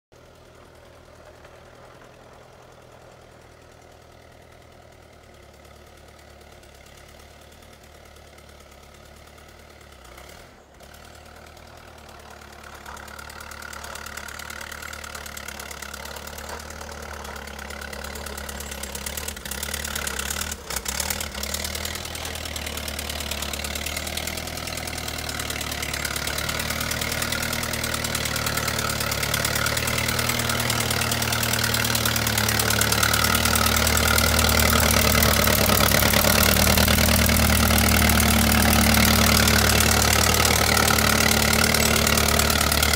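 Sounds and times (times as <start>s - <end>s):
tractor engine running: 0.1s - 42.9s.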